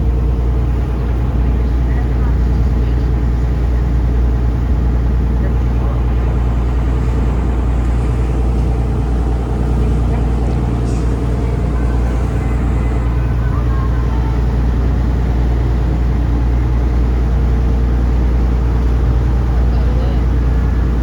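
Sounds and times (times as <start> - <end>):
boat engine low hum: 0.0 - 21.0.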